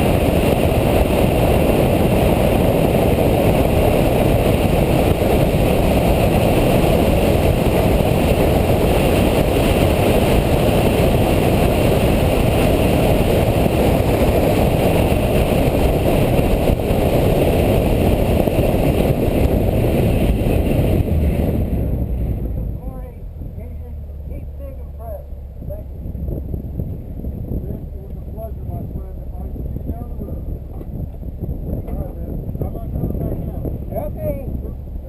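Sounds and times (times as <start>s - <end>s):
car engine: 0.0s - 35.0s
road noise: 0.0s - 35.0s
wind noise: 0.0s - 35.0s.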